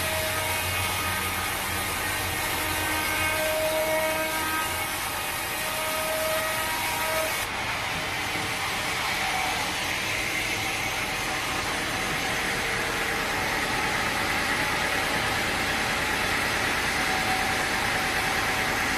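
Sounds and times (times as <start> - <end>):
sawmill machinery humming: 0.0 - 18.9.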